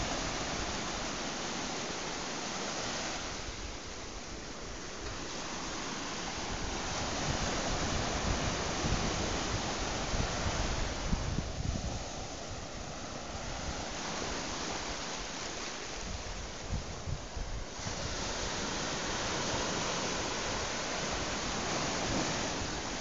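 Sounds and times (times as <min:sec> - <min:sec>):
waves washing on sandy beach: 0:00.0 - 0:23.0.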